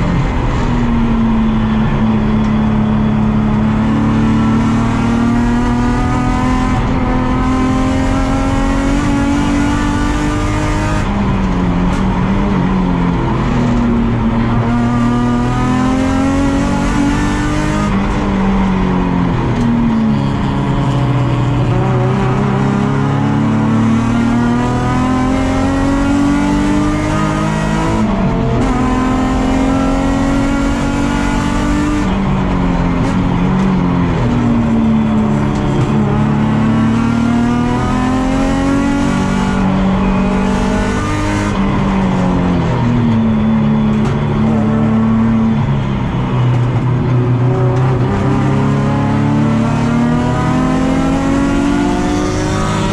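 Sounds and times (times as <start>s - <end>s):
race car engine revving through gears: 0.0s - 52.9s.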